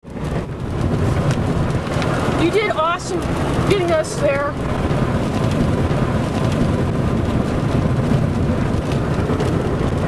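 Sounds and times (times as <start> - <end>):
rain on windshield: 0.0 - 10.0
wind and road noise in car: 0.0 - 10.0.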